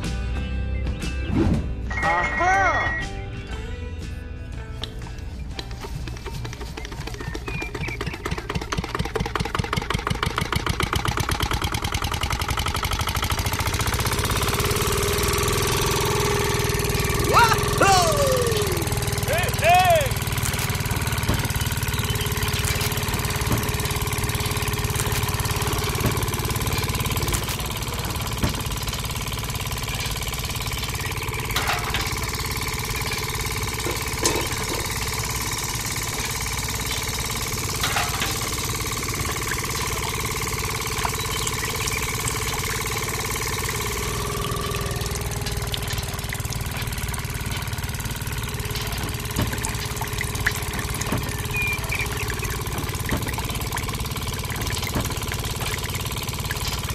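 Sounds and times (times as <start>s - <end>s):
small engine running: 1.9s - 56.9s.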